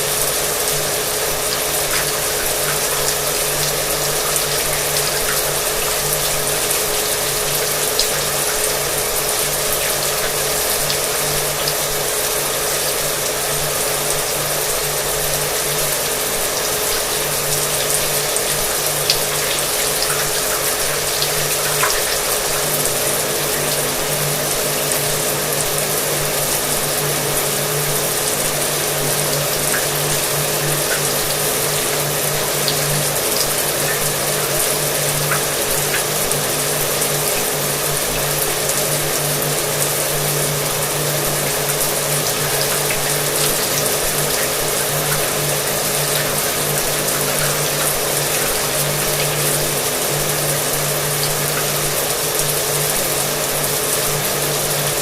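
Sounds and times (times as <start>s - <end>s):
shower water spraying: 0.0s - 55.0s.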